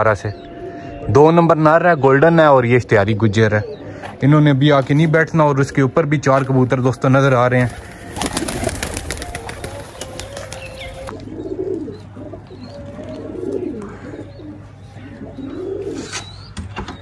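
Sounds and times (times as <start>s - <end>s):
pigeons cooing: 0.0s - 6.0s, 7.2s - 17.0s.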